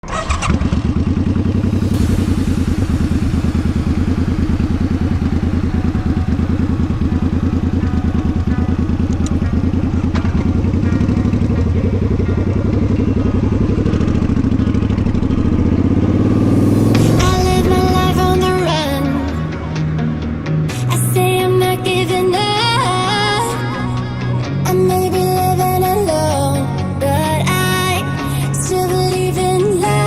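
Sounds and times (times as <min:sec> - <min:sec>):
vehicle engine pulsing: 0:00.0 - 0:30.0.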